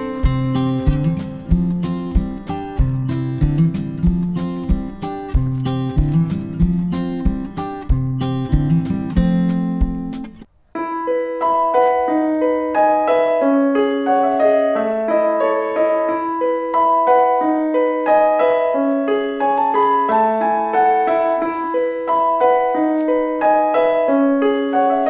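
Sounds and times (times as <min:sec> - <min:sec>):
gentle piano piece: 0:00.0 - 0:25.0.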